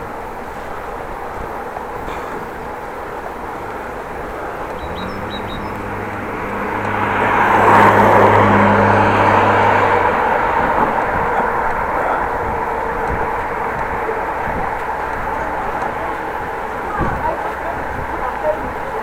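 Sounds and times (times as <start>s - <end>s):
bicycle rolling noise: 0.0s - 19.0s
wind: 0.0s - 19.0s
vehicle engine passing by: 3.1s - 19.0s.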